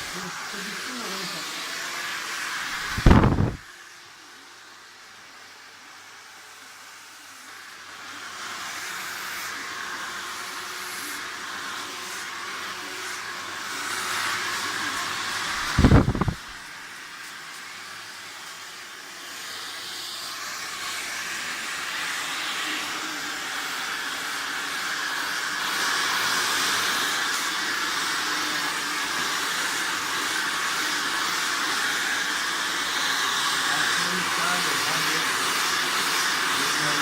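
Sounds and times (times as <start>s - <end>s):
hair dryer blowing: 0.0s - 37.0s.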